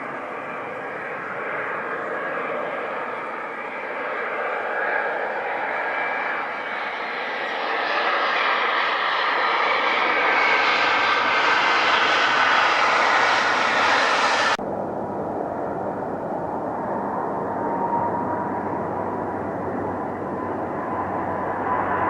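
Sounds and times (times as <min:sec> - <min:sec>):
aircraft passing with high whine: 0:00.0 - 0:22.0
steady aircraft engine noise: 0:00.0 - 0:22.0.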